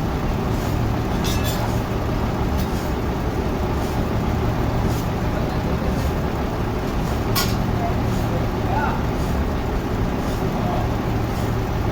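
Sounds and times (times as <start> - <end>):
sawmill machinery droning: 0.0 - 11.9.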